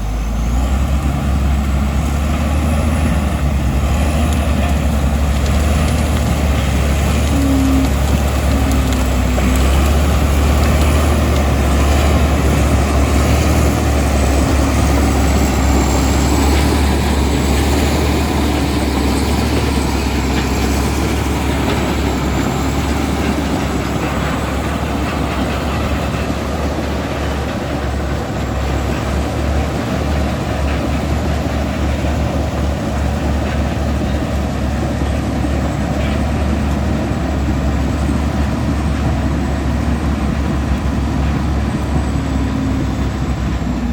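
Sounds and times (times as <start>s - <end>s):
bulldozer diesel engine rumble: 0.0s - 43.9s
heavy machine clatter: 0.8s - 43.9s.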